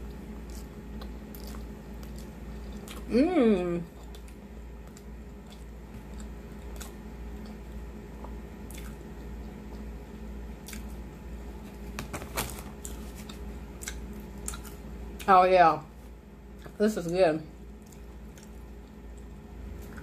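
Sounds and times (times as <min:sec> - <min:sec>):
person chewing food: 0:00.0 - 0:03.2, 0:03.8 - 0:12.0, 0:12.6 - 0:15.3, 0:17.6 - 0:20.0
steady low hum: 0:00.0 - 0:20.0.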